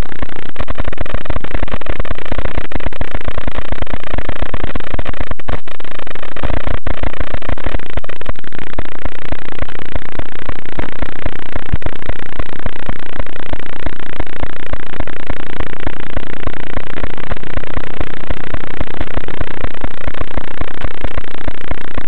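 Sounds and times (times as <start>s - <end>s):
static hiss with crackling: 0.0s - 22.0s.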